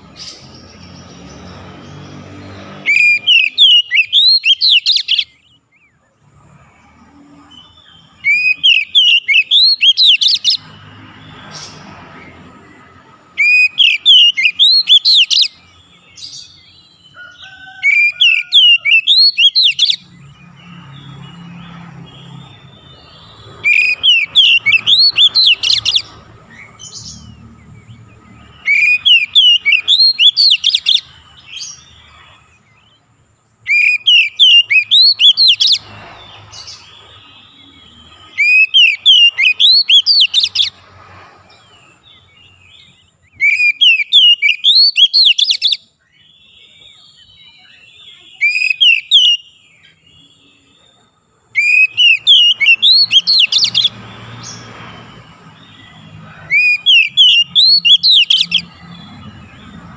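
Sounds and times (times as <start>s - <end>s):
bird whistling song: 0.0s - 33.0s, 33.6s - 40.8s, 41.5s - 59.9s.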